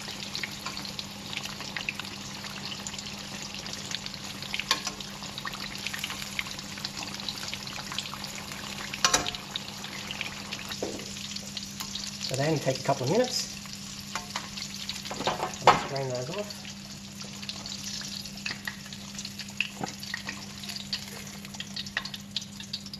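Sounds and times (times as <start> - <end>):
deep-frying sizzling and crackling: 0.0 - 22.9.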